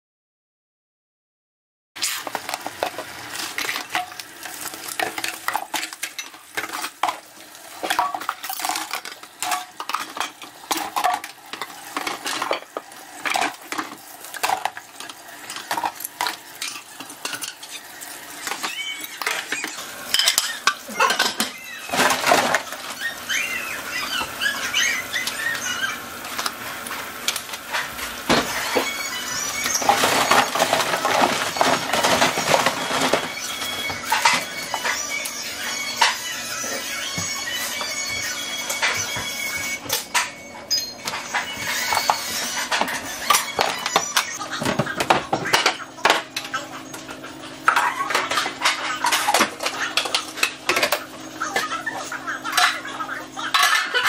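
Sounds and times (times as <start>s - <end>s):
tap water running: 2.0s - 40.3s, 41.0s - 54.0s
plastic dishes clattering: 2.0s - 40.4s, 41.0s - 54.0s.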